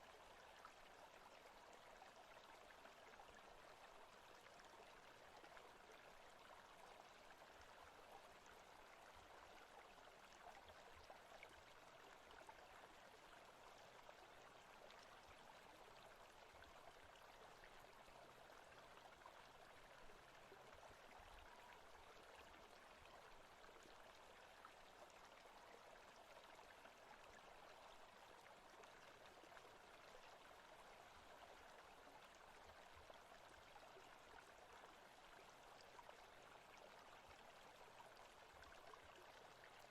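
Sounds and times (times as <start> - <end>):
stream flowing: 0.1 - 39.9.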